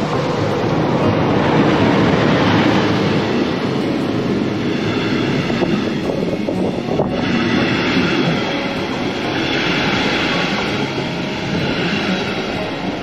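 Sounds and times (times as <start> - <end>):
passenger train passing: 0.0 - 13.0.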